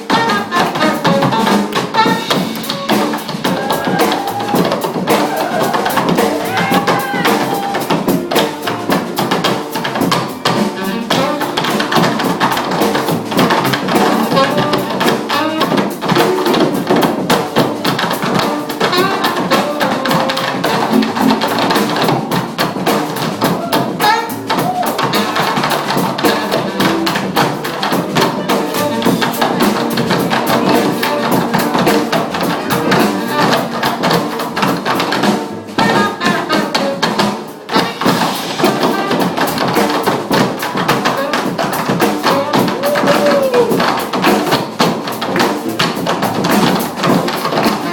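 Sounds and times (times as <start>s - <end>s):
drum kit beat: 0.0s - 47.9s
funk band playing: 0.0s - 47.9s.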